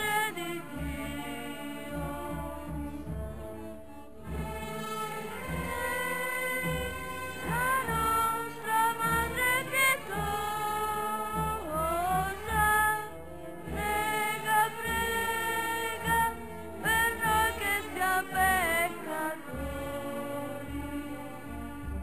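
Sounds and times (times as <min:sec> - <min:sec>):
music with sliding sung notes: 0:00.0 - 0:22.0.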